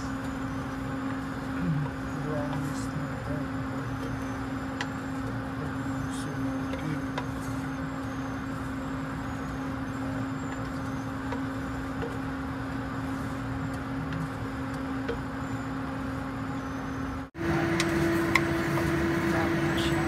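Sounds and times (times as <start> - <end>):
steady hum with hiss: 0.0 - 20.0.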